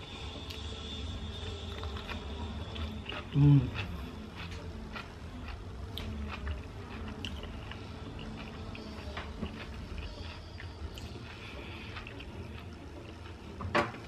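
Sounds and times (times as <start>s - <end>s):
low steady hum: 0.0s - 14.0s
person chewing: 0.4s - 0.8s, 1.4s - 14.0s.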